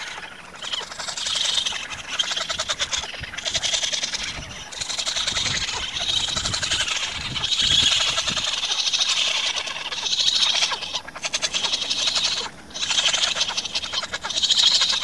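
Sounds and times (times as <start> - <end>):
raccoon kits chittering: 0.0 - 15.0.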